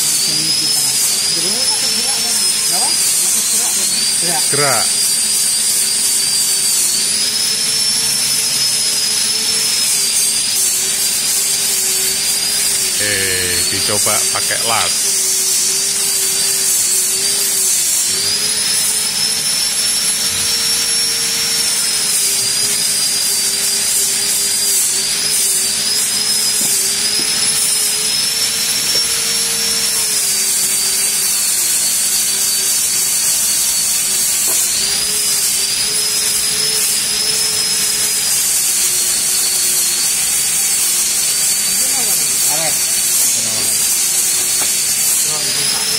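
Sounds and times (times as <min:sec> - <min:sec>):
machine hissing: 0:00.0 - 0:45.9.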